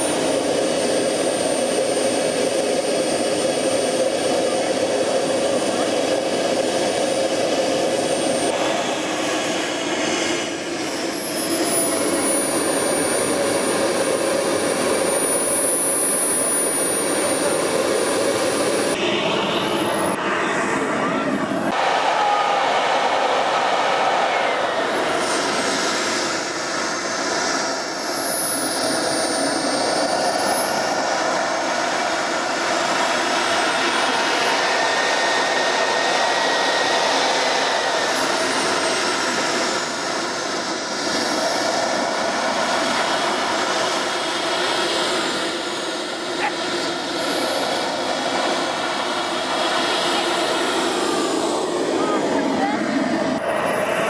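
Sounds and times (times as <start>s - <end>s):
model jet engine whining: 0.0s - 54.0s.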